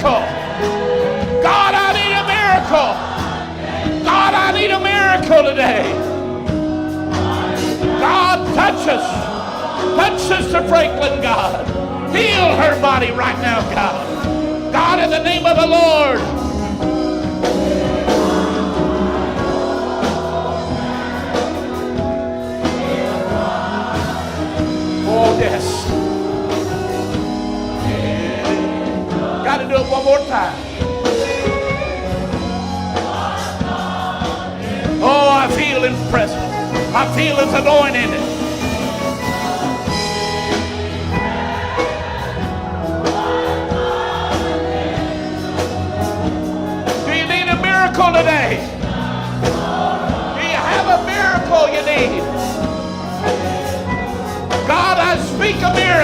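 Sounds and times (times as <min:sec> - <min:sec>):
drums keeping steady beat: 0:00.0 - 0:56.0
guitar: 0:00.0 - 0:56.0
held organ chords: 0:00.0 - 0:56.0
live band playing gospel song: 0:00.0 - 0:56.0
voices singing: 0:00.0 - 0:56.0.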